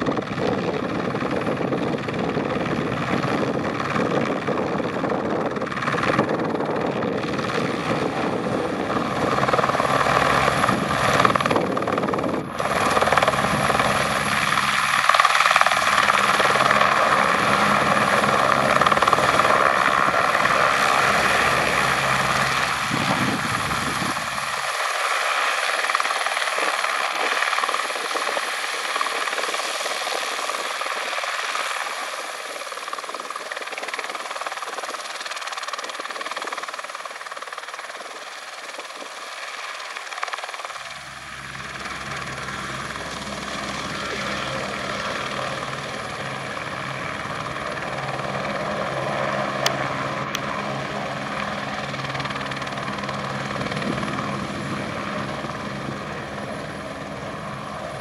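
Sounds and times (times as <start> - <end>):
helicopter rotor sound: 0.0 - 58.0
helicopter turbine whine: 0.0 - 58.0.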